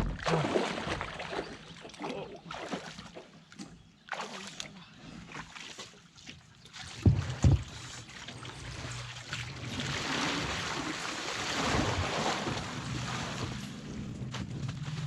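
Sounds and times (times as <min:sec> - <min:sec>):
small water splashes: 0:00.0 - 0:15.0.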